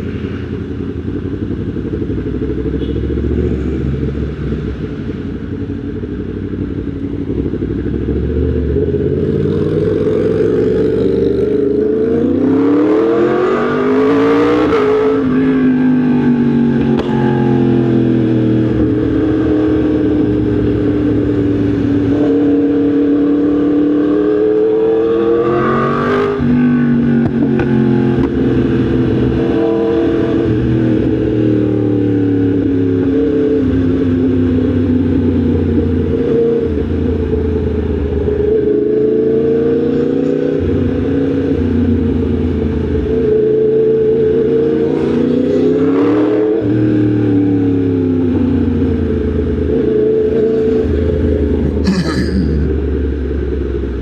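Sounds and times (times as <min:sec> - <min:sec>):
motorcycle engine revving: 0:00.8 - 0:54.0.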